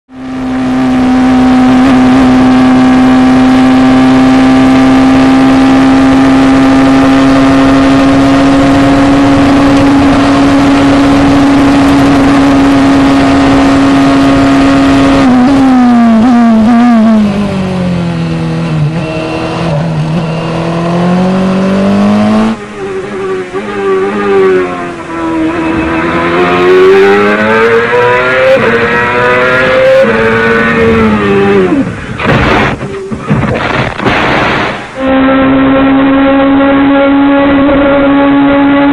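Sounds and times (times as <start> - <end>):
racing car engine revving: 0.1 - 38.9.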